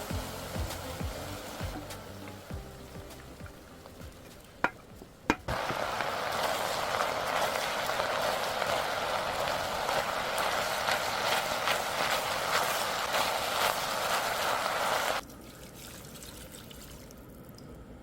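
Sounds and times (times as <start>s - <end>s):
food sizzling in hot pan: 0.0s - 15.2s.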